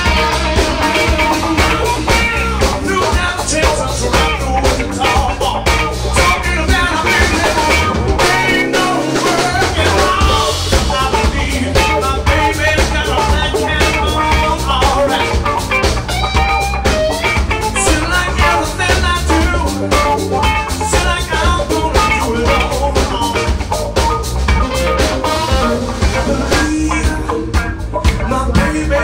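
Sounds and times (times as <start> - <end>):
bass guitar: 0.0 - 29.0
drum kit beat: 0.0 - 29.0
electric guitars: 0.0 - 29.0.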